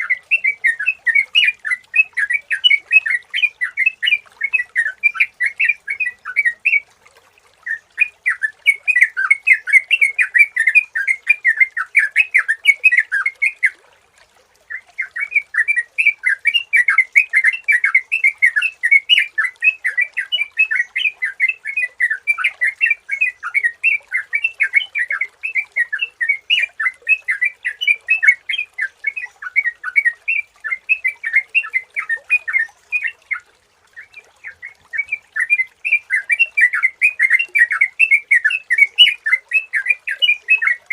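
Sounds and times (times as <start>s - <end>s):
bird chattering song: 0.0s - 6.8s, 7.7s - 13.8s, 14.7s - 33.4s, 34.0s - 40.9s.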